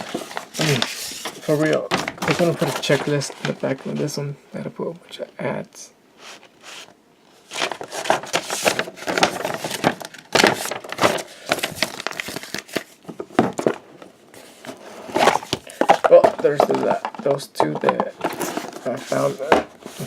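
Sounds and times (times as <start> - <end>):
cardboard and paper crinkling: 0.0 - 4.2, 6.8 - 13.8, 14.4 - 20.0.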